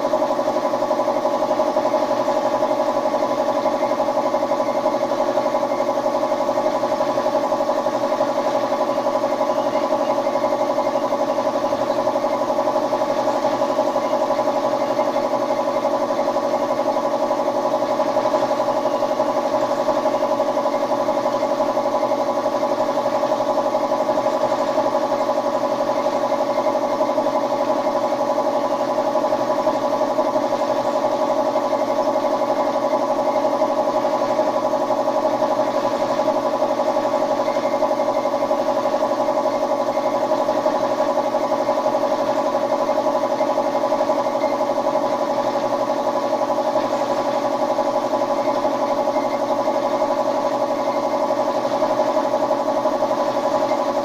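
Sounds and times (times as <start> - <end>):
air compressor hum: 0.0 - 54.0.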